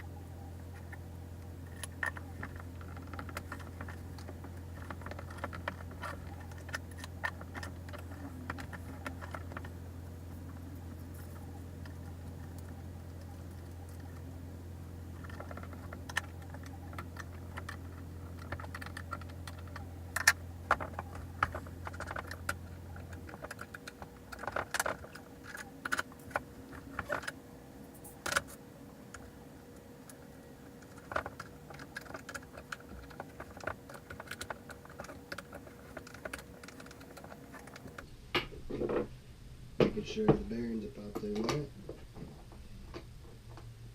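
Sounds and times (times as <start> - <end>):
low hum: 0.0 - 43.9.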